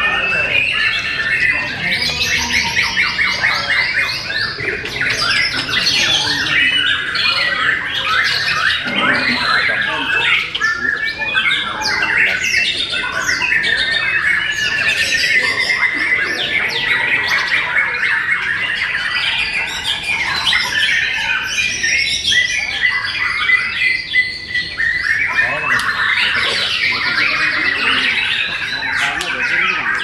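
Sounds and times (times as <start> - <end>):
birds singing and chattering: 0.0 - 30.0.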